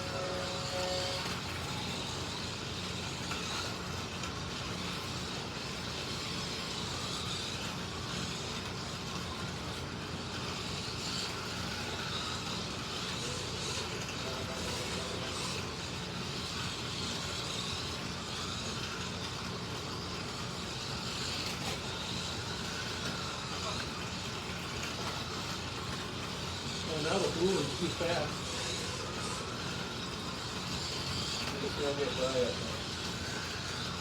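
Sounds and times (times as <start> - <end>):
slot cars whirring: 0.0 - 34.0.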